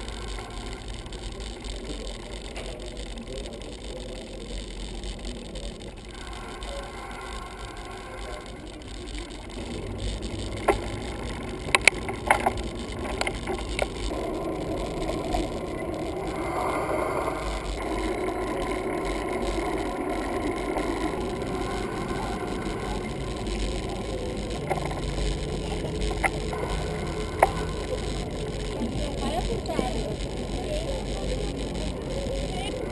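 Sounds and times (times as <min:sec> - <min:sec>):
bicycle rattles and clicks: 0:00.0 - 0:32.9
bicycle rolling on pavement: 0:00.0 - 0:32.9.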